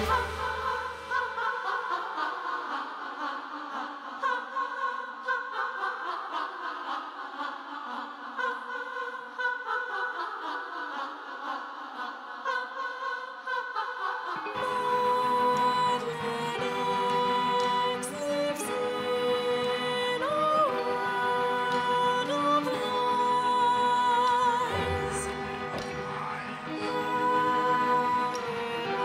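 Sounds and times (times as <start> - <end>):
women singing a cappella: 0.0 - 29.0.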